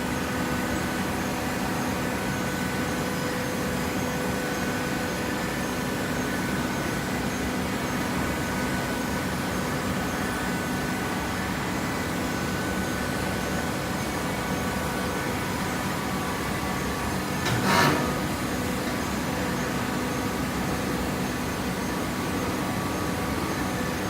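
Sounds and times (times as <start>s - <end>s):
baling machine humming: 1.1s - 24.0s.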